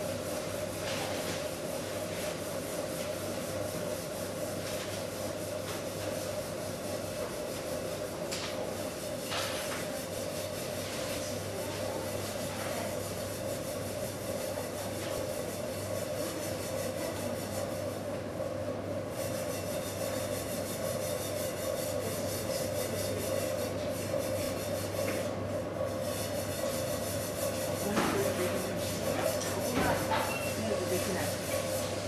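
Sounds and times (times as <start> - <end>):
potter's wheel humming: 0.0 - 32.0.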